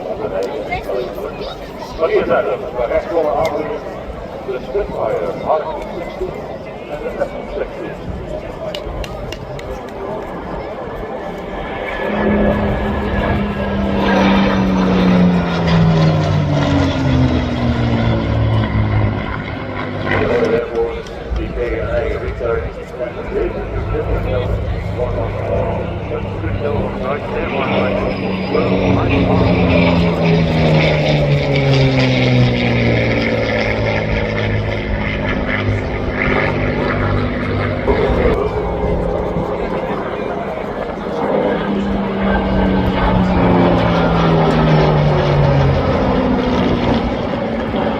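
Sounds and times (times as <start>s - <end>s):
propeller plane flying past: 0.0s - 47.9s.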